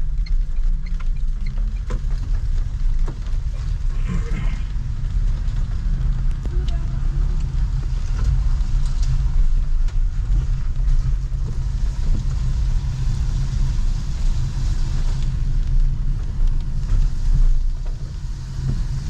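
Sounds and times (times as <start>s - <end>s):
continuous low rumble: 0.0s - 19.0s
raindrop ticks: 0.0s - 19.0s
heavy rain hissing: 3.3s - 19.0s.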